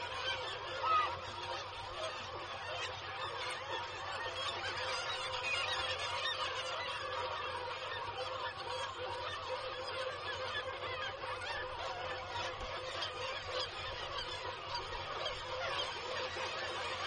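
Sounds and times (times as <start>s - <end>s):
seabird colony calling: 0.0s - 17.0s.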